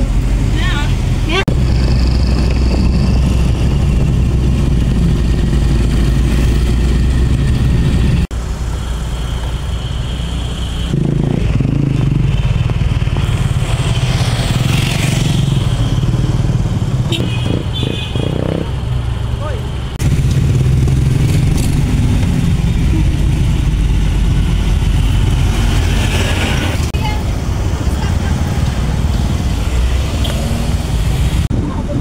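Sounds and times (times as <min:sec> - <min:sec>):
engine and road rumble: 0:00.0 - 0:32.0.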